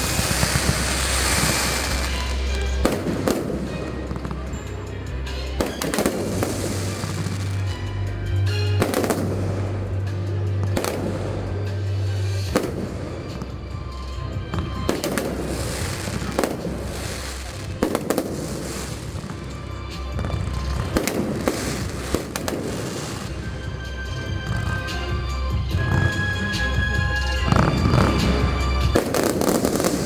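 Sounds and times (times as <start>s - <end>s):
fireworks bursting and crackling: 0.0s - 30.0s
music playing: 0.0s - 30.0s.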